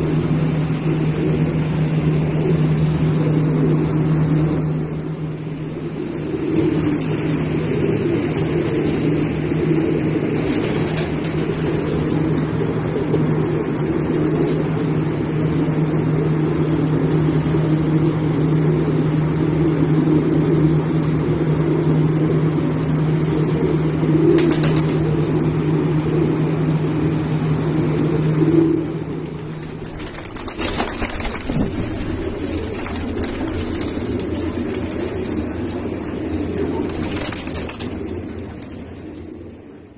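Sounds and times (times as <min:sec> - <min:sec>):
pigeons cooing: 0:00.0 - 0:39.9
steady low hum: 0:00.0 - 0:39.9.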